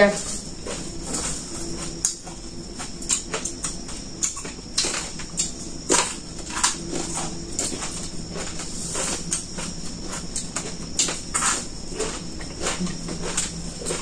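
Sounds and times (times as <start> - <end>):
crunchy chewing: 0.2 - 14.0.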